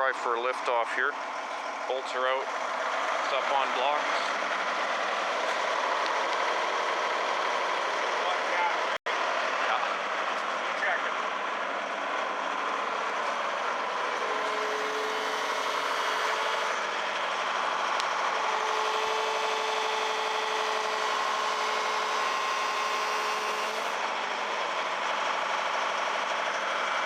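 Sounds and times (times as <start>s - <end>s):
heavy machine engine running: 0.0s - 27.0s
steady whine: 0.0s - 27.0s.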